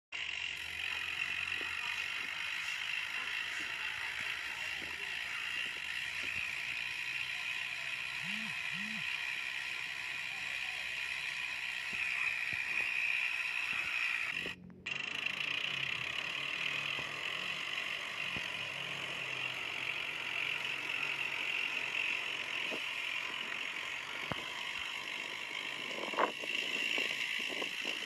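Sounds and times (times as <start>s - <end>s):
bicycle freewheel whirring hiss: 0.2s - 28.0s.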